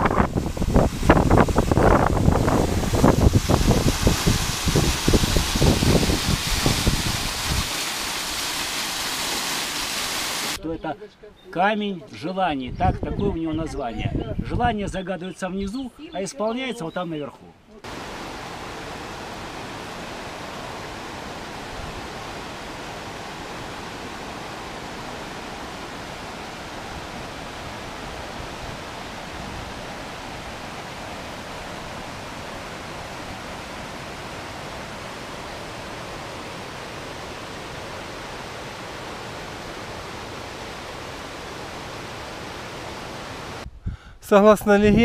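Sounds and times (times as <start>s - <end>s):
stream rushing over rocks: 0.0s - 10.6s, 17.8s - 43.6s.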